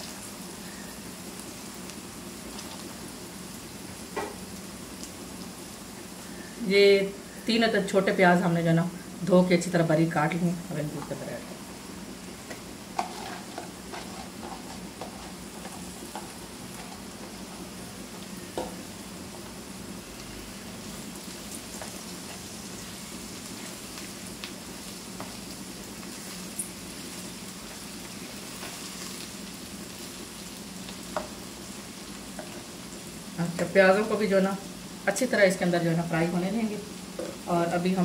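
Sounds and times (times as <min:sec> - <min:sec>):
vegetables sizzling in hot oil: 0:00.0 - 0:38.0.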